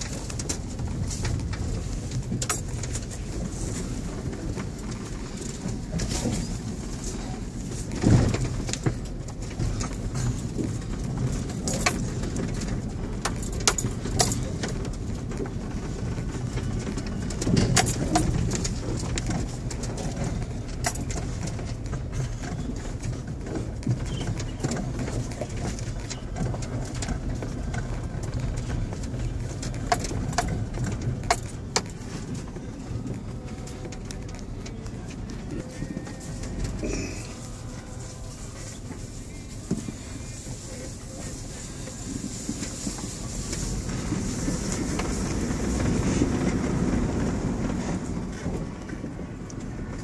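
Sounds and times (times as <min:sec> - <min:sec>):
vehicle engine and tyres rumbling: 0:00.0 - 0:50.0
vehicle rattles and knocks: 0:00.0 - 0:50.0.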